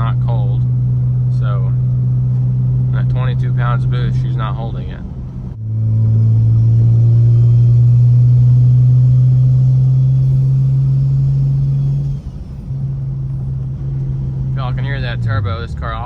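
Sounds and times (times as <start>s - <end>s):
loud car engine under throttle: 0.0s - 16.0s.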